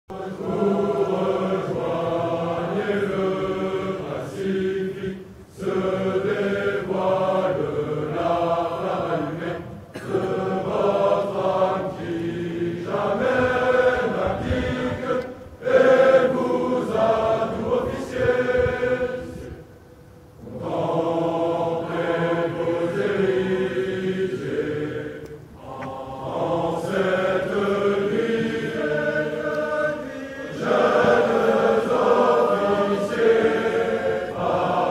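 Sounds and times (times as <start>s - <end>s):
large choir singing a cappella: 0.1s - 34.9s.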